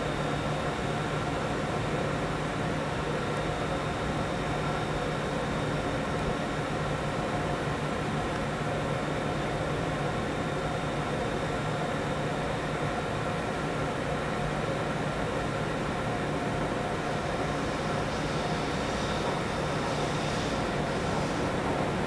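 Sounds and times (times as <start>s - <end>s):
electric train hum and whine: 0.0s - 22.0s.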